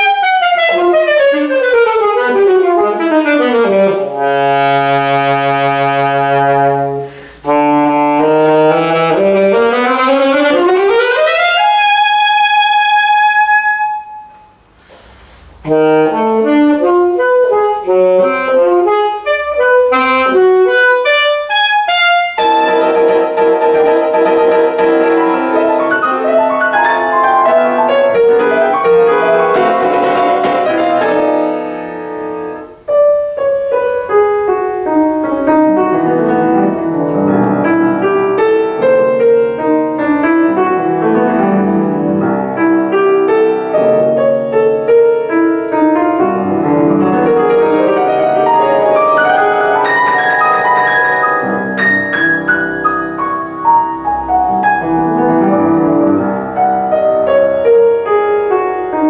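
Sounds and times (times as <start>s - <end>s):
grand piano classical piece: 0.0s - 59.0s.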